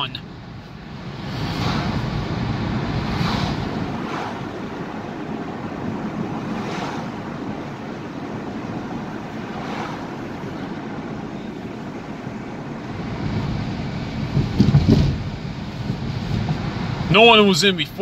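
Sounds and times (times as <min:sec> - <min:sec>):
road and tyre noise in car: 0:00.0 - 0:18.0
passing cars whooshing: 0:00.2 - 0:17.5.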